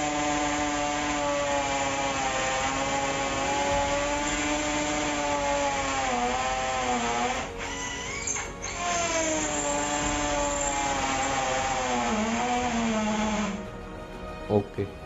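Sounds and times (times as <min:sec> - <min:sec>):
hammer drill motor whining: 0:00.0 - 0:13.8.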